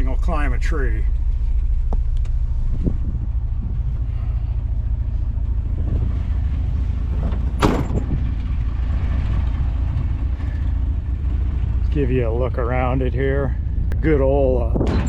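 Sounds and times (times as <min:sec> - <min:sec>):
pickup truck idling: 0:00.0 - 0:14.8.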